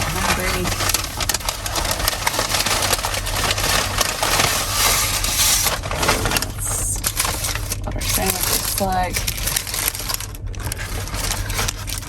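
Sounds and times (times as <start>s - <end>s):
low steady hum: 0.0s - 12.0s
paper wrapper crinkling: 0.0s - 12.0s.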